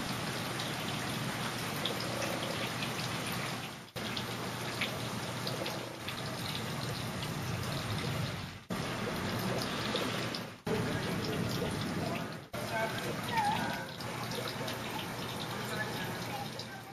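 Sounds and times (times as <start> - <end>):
steady downpour of rain: 0.0 - 16.9.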